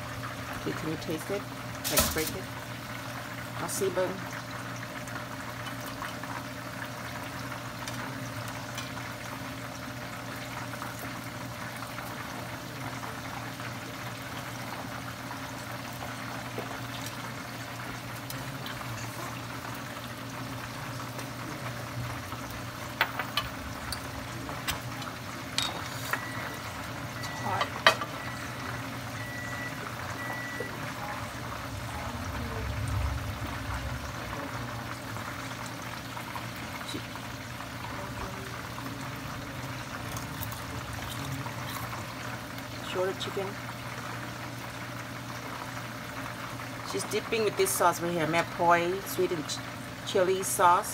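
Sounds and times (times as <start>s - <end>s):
chicken sizzling in hot oil: 0.0s - 50.9s.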